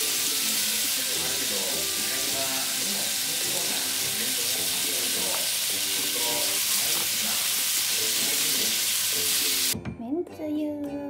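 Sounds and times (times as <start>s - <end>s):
meat sizzling in a frying pan: 0.0s - 9.8s.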